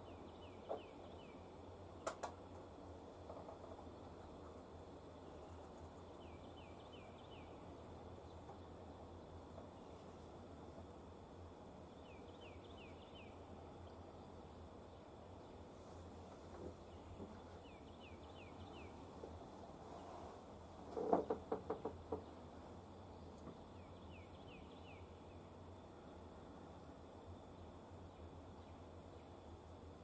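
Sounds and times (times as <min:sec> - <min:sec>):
low steady background hiss: 0:00.0 - 0:30.0.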